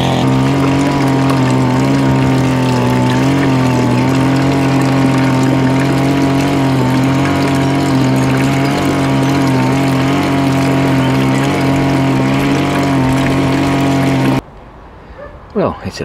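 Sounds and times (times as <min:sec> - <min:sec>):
water trickling into a pond: 0:00.0 - 0:14.4
engine drone: 0:00.0 - 0:14.5.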